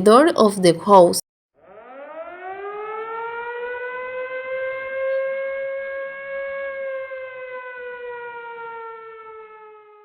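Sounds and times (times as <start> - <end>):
warning siren wailing: 1.6 - 10.0.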